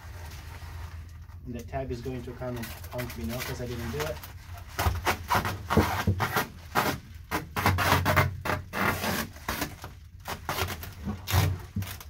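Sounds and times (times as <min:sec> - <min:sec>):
foil tape rustling and crinkling: 0:00.0 - 0:12.0.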